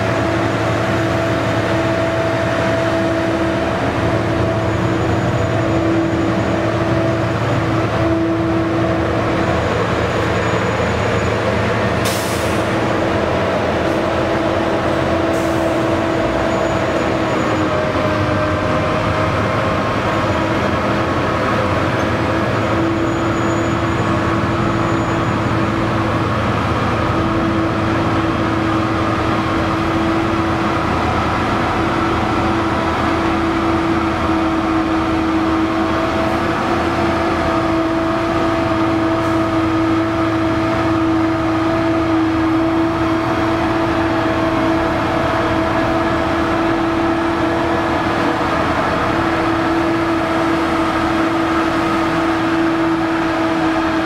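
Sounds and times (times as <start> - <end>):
heavy engines running: 0.0 - 54.0.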